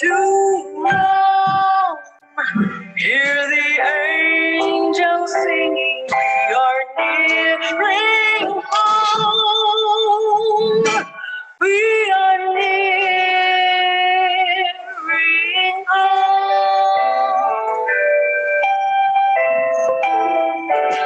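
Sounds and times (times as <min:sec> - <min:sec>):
backing music: 0:00.0 - 0:11.6, 0:12.4 - 0:21.0
person singing a hymn: 0:00.0 - 0:21.0.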